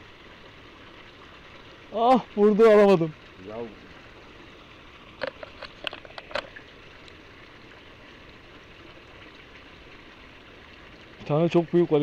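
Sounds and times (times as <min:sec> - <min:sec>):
water jet splashing into pond: 0:00.0 - 0:12.0.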